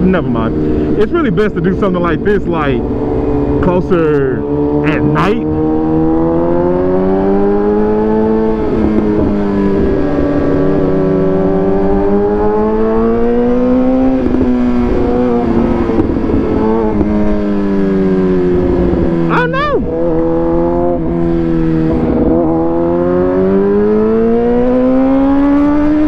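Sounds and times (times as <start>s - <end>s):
motorcycle engine running: 0.0s - 26.0s
wind rumble on microphone: 1.9s - 26.0s.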